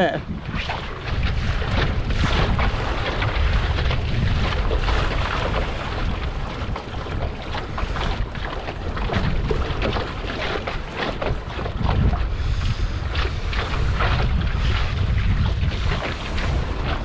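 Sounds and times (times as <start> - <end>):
water splashing against boat bow: 0.0 - 17.0
wind buffeting microphone: 0.0 - 17.0.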